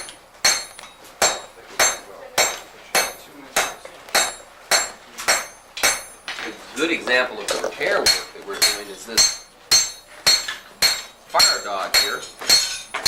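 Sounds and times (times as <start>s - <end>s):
hammer striking iron on anvil: 0.0s - 6.5s, 7.9s - 13.0s.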